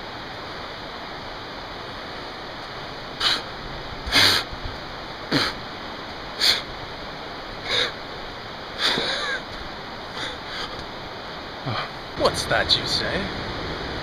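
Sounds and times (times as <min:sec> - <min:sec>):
creek rapids rushing: 0:00.0 - 0:14.0.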